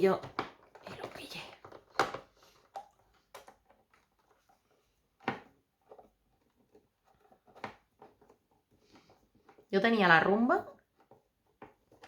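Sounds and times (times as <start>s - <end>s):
plastic parts knocking and clicking: 0.0s - 9.7s, 10.7s - 12.0s.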